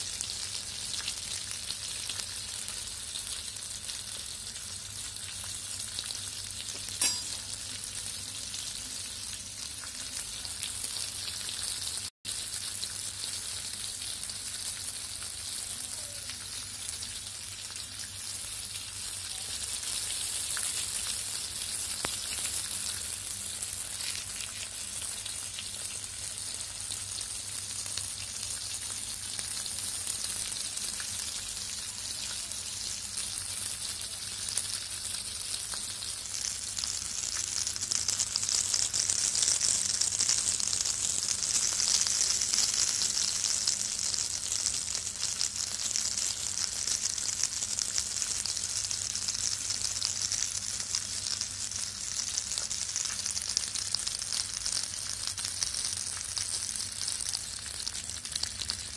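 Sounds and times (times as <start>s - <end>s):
oil crackles and pop: 0.0s - 8.0s, 8.8s - 58.9s
oil sizzling in pan: 0.0s - 58.9s.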